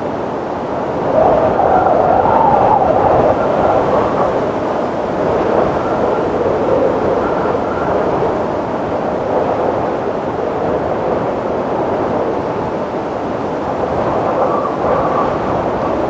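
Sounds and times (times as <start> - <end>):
faint wind whistle: 0.0 - 16.0
strong wind blowing: 0.0 - 16.0.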